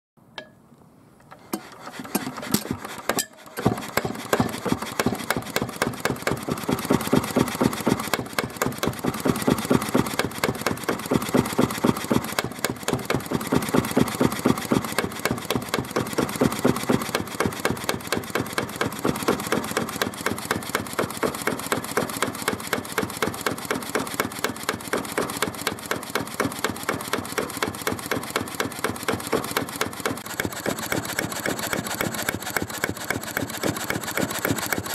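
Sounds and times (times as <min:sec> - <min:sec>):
engine cranking clicks: 0:01.2 - 0:34.9
diesel engine knocking rhythmically: 0:03.9 - 0:34.9.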